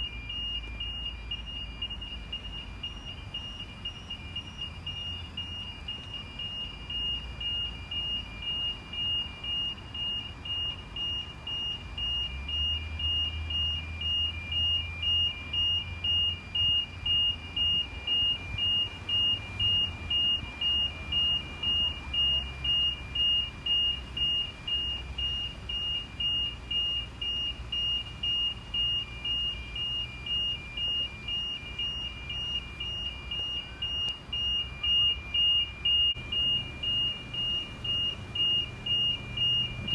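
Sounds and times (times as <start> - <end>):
level crossing warning bell: 0.0 - 39.9
low engine rumble: 0.0 - 39.9.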